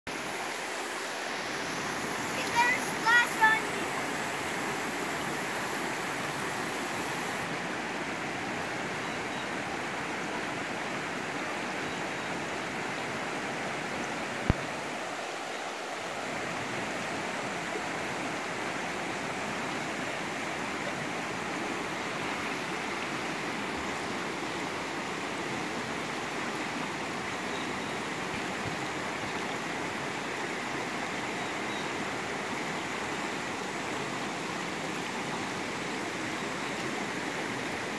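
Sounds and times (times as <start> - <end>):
creek rushing over stones: 0.1 - 37.9.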